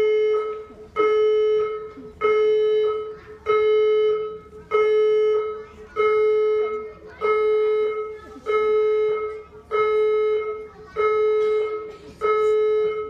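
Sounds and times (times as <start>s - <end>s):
fire alarm beeping: 0.0s - 13.0s.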